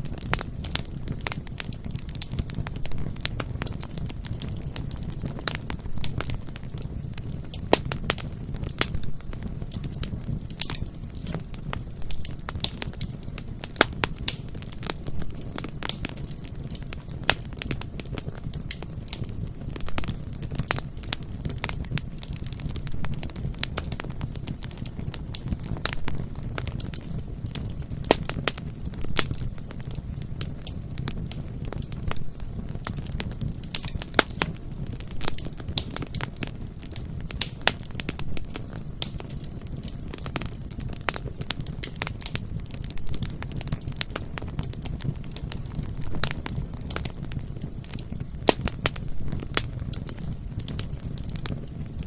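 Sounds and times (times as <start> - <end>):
bonfire crackling and popping: 0.0 - 52.0
low fire rumble: 0.0 - 52.0.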